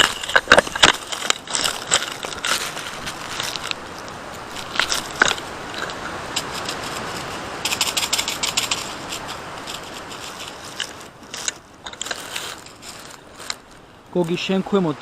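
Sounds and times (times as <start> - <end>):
steady rustling noise: 0.0 - 15.0.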